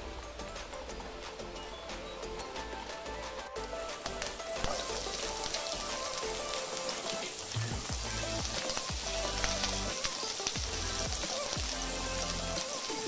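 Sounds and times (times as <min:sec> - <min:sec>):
background music: 0:00.0 - 0:13.0
onion sizzling in oil: 0:00.0 - 0:13.0.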